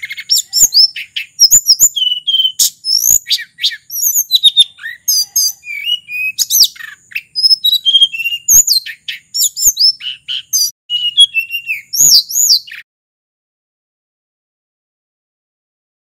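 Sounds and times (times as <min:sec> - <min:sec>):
bird singing high whistles: 0:00.0 - 0:12.8.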